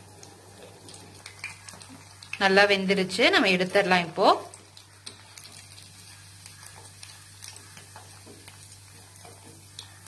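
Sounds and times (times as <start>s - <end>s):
deep-frying sizzle with pops: 0.0s - 10.0s.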